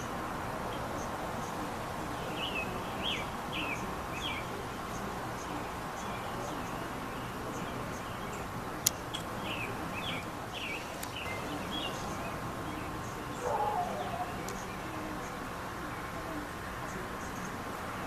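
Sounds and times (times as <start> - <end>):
outdoor hiss: 0.0 - 18.0
small birds chirping: 0.0 - 18.0.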